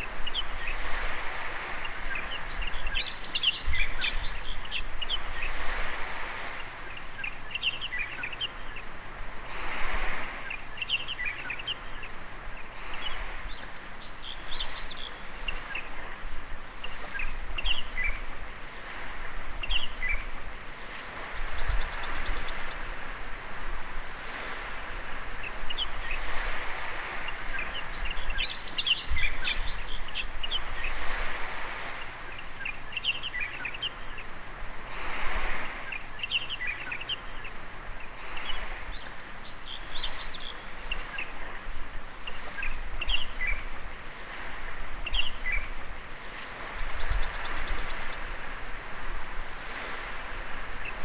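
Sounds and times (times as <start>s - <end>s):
small birds chirping: 0.0s - 23.4s, 24.2s - 34.4s, 35.0s - 51.0s
gentle surf on shore: 0.0s - 51.0s.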